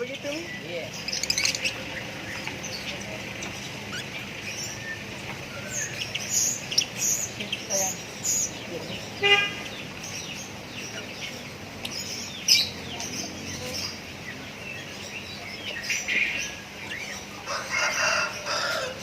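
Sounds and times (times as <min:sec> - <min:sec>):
birds chirping high calls: 0:00.0 - 0:19.0.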